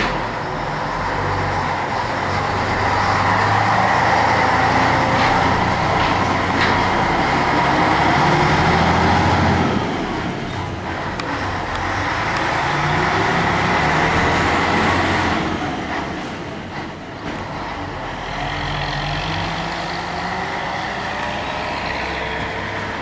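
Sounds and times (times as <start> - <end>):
diesel truck engine under load: 0.0 - 23.0.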